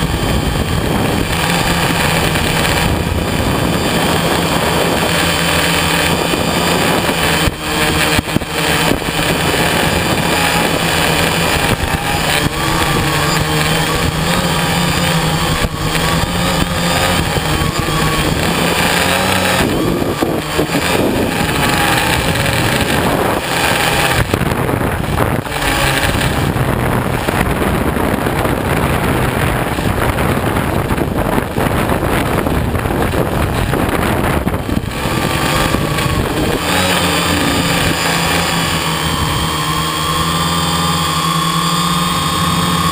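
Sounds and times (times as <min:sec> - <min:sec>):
quadcopter motors whirring: 0:00.0 - 0:42.9.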